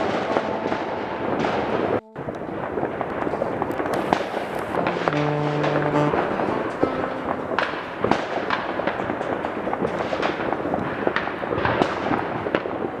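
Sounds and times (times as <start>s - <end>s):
distant fireworks crackling: 0.0s - 13.0s
sharp firework bangs: 0.0s - 13.0s.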